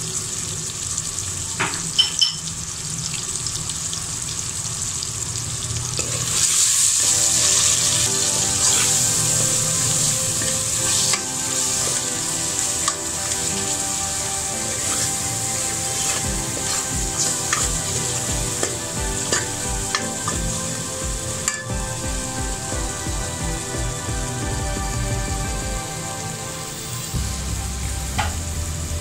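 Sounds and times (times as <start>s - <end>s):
spices sizzling in hot oil: 0.0s - 24.8s.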